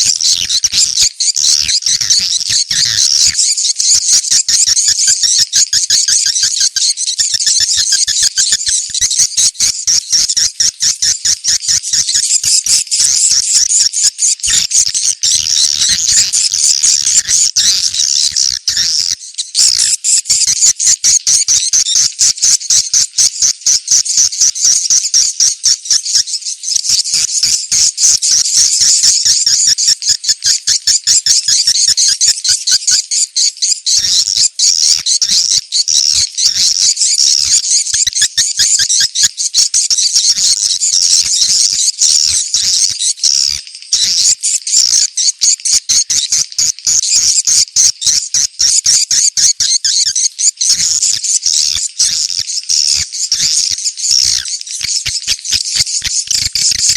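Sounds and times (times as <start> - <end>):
swiftlets chirping and twittering: 0.0 - 56.9.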